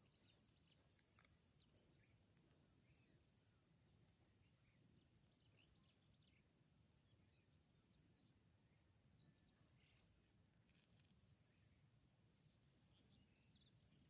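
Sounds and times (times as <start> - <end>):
faint bird chirps: 0.0 - 14.0
insect buzz and trilling: 0.0 - 14.0.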